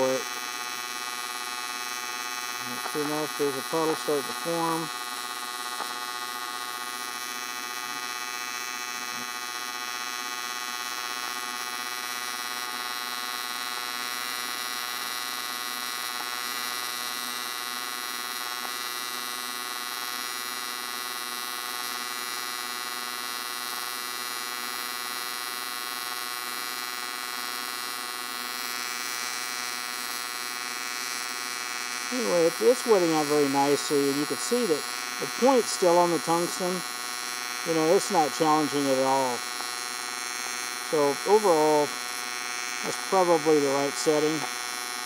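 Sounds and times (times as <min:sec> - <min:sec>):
welding arc buzzing: 0:00.0 - 0:45.0.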